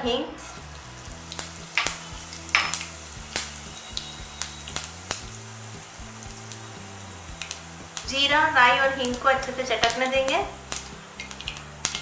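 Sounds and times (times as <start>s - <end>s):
faint sizzle: 0.0s - 12.0s
seeds popping in hot oil: 0.4s - 12.0s.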